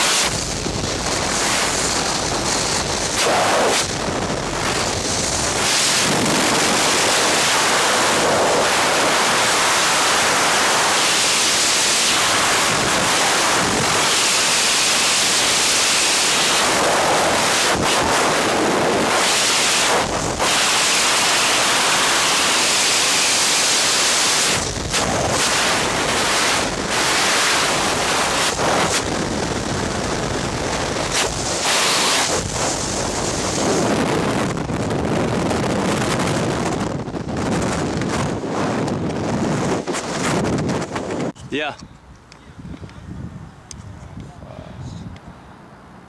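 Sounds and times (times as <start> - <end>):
wind rushing over microphone: 0.0 - 45.7.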